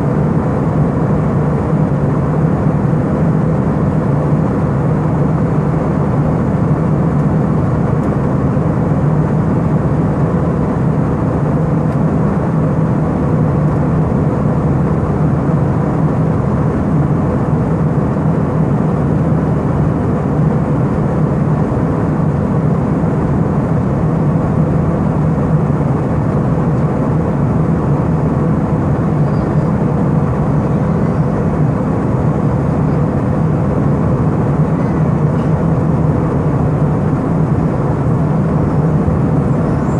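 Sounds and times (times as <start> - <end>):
airliner cabin engine rush: 0.0 - 39.9
low hum: 0.0 - 39.9.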